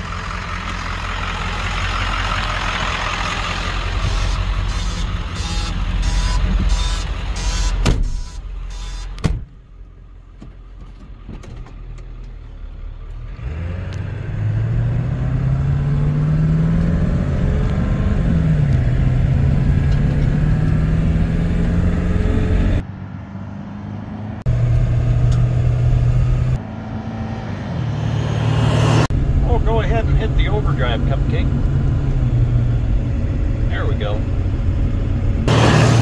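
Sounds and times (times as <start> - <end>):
diesel truck engine accelerating: 0.0 - 36.0.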